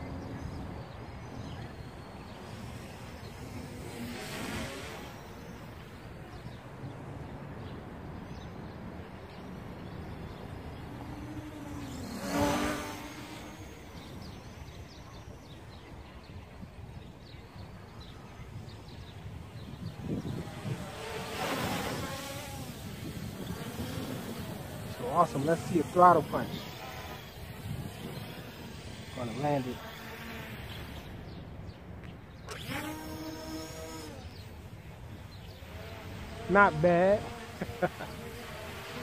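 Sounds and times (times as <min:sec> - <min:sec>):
drone propellers whining: 0:00.0 - 0:07.3, 0:08.3 - 0:15.8, 0:18.7 - 0:39.0.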